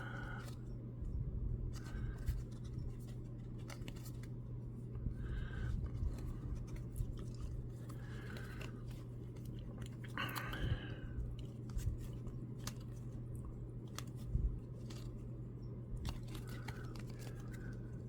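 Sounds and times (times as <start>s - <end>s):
low hum: 0.0s - 18.0s
cards and wrappers rustling: 1.7s - 18.0s.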